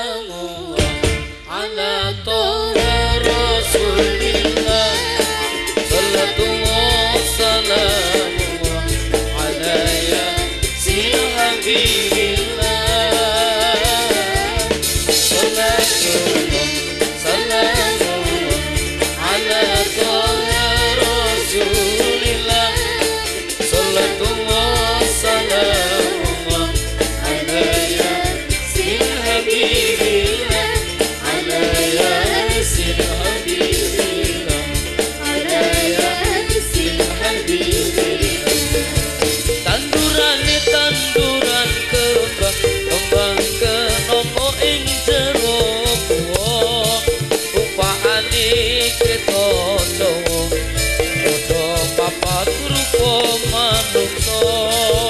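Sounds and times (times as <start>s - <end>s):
man and women singing: 0.0s - 50.6s, 51.2s - 55.0s
keyboard: 0.0s - 55.0s
drum kit: 0.6s - 1.7s, 2.7s - 55.0s
frame drums: 0.8s - 1.6s, 2.8s - 55.0s.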